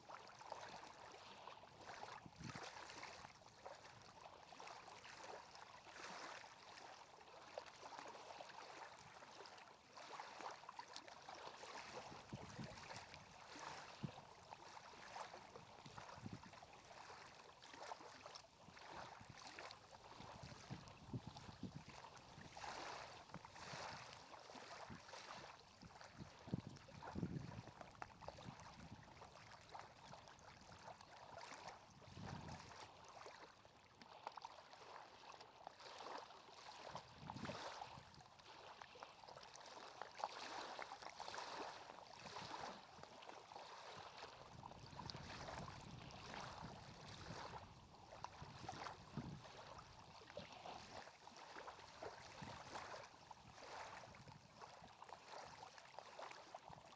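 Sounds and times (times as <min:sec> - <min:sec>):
lake water lapping: 0:00.1 - 0:56.9.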